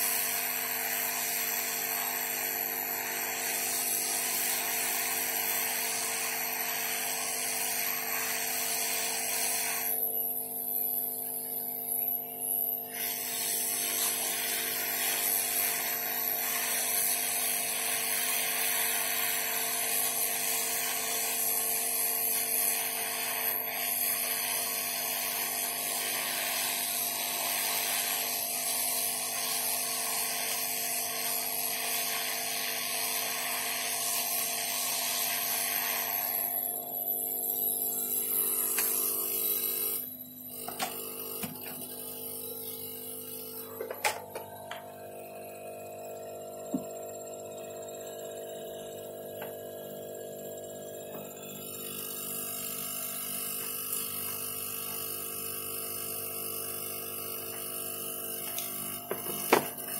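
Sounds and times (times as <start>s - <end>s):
hot-air blower hissing: 0.0s - 59.9s.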